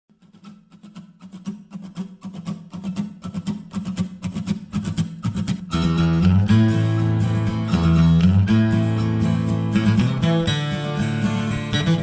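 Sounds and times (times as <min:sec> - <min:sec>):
acoustic guitar strumming: 0:00.1 - 0:12.0.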